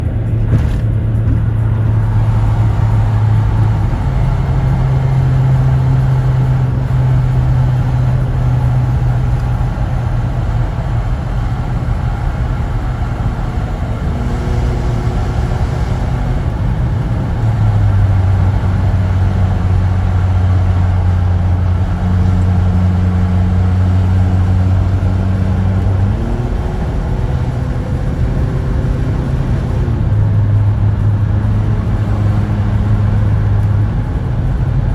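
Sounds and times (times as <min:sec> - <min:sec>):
car exhaust low note: 0:00.0 - 0:34.9.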